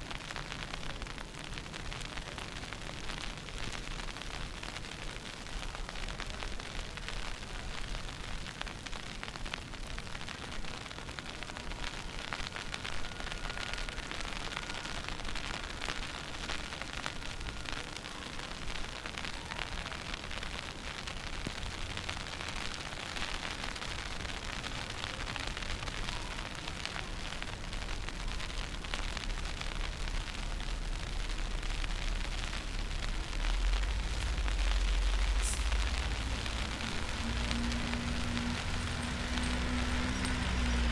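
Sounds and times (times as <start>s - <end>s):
crackling hiss: 0.0s - 40.9s.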